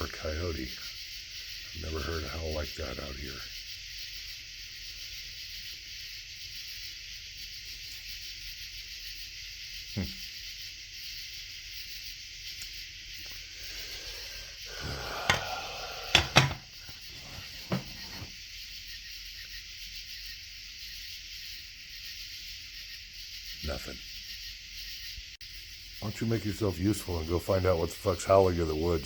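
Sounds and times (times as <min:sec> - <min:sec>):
night insect chorus hiss: 0:00.0 - 0:29.0.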